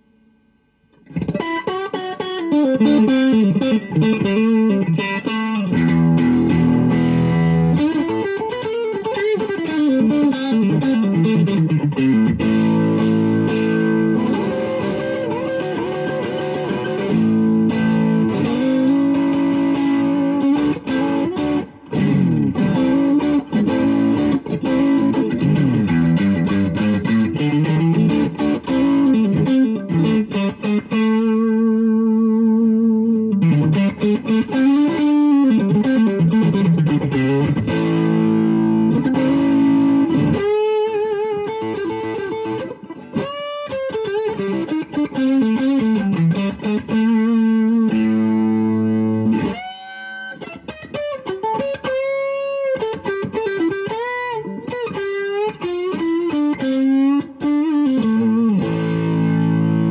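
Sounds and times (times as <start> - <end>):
fuzz electric guitar lead: 0.9 - 59.9.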